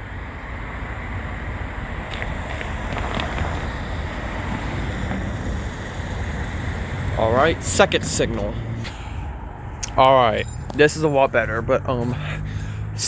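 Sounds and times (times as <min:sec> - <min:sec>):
street traffic going by: 0:00.0 - 0:13.0.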